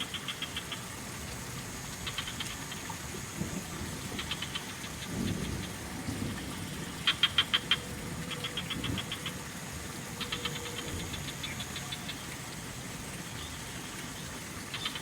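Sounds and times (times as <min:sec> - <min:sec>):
frogs calling in clicking pulses: 0:00.0 - 0:15.0.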